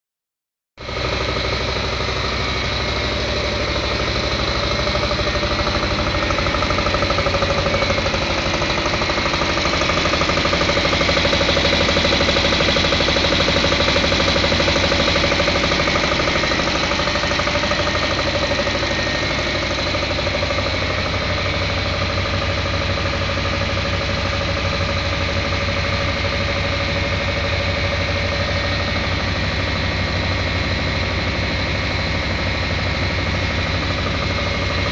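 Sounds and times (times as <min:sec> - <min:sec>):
engine firing pulse: 0:00.8 - 0:34.9
steady whining tones: 0:00.9 - 0:34.9.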